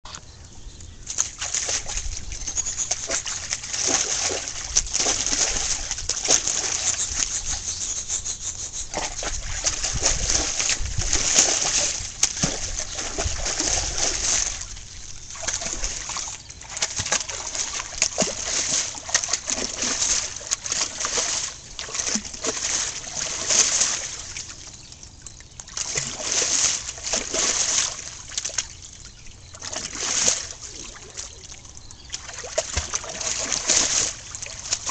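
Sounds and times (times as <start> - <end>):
dog splashing in water: 1.1 - 7.7, 8.8 - 24.7, 25.6 - 28.8, 29.6 - 34.9.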